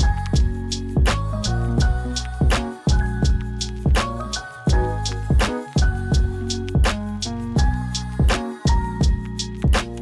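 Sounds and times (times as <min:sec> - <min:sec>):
instrumental background music: 0:00.0 - 0:10.0
steady drum beat: 0:00.0 - 0:10.0.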